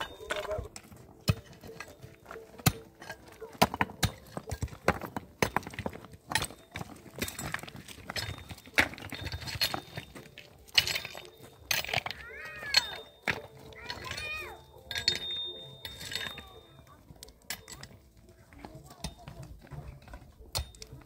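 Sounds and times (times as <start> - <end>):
hard objects knocking and clinking: 0.0 - 21.0.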